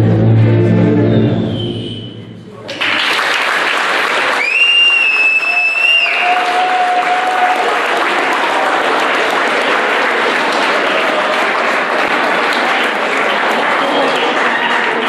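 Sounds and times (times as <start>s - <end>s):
children applauding: 2.6s - 15.0s.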